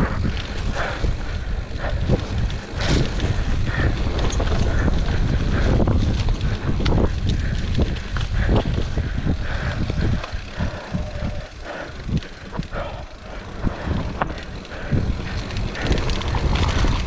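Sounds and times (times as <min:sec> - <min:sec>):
bike rattling over bumps: 0:00.0 - 0:17.0.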